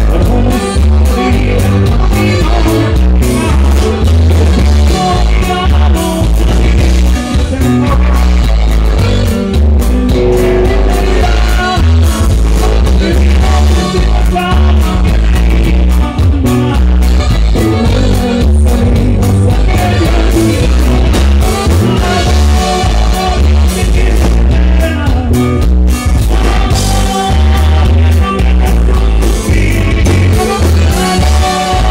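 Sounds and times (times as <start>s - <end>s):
person singing: 0.0s - 25.6s, 26.2s - 31.9s
band playing dance music: 0.0s - 31.9s
loud steady bass: 0.0s - 31.9s.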